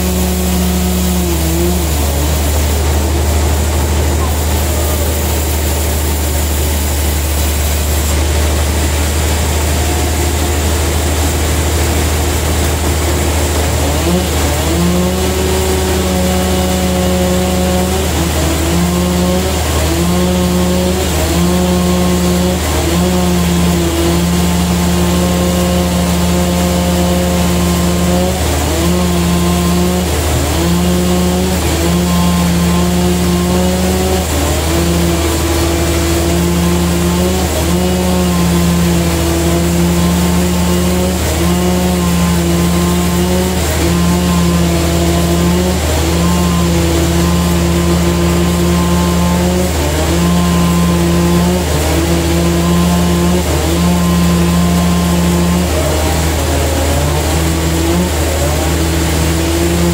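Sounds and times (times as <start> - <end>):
saw blade whining through log: 0.0 - 59.9
sawmill deep hum: 0.0 - 59.9.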